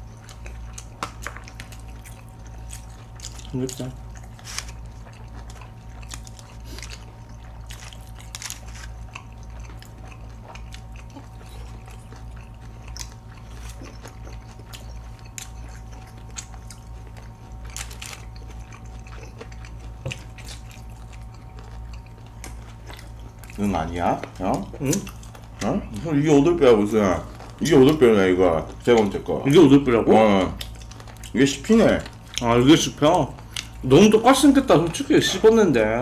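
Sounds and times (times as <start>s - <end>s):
chewing and biting food: 0.0s - 36.0s
low electrical hum: 0.0s - 36.0s.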